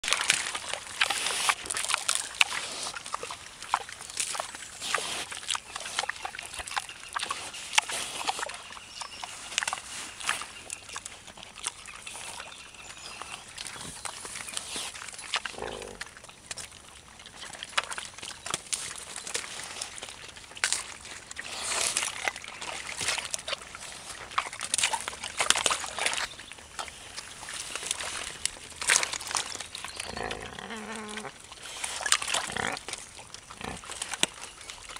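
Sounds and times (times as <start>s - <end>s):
boar rooting in muddy water: 0.0s - 34.9s.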